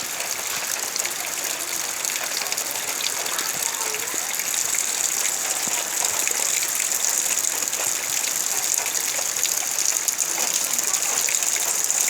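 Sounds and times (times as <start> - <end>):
raindrop ticks: 0.0 - 12.0
steady rainfall: 0.0 - 12.0.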